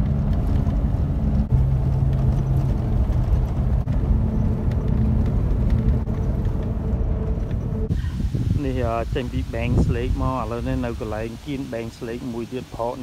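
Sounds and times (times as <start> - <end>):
engine hum: 0.0 - 13.0
road noise inside vehicle: 0.0 - 13.0.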